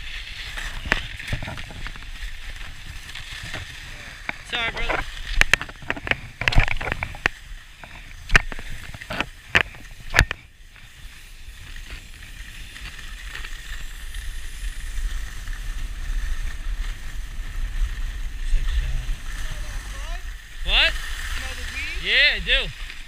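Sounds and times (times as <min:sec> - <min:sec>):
skis running over packed snow: 0:00.0 - 0:23.0
wind rumbling on microphone: 0:00.0 - 0:23.0.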